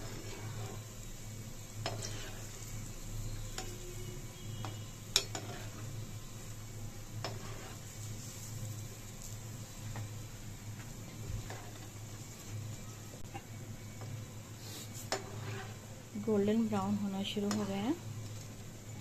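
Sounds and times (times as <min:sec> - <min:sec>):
batter sizzling in hot oil: 0:00.0 - 0:19.0.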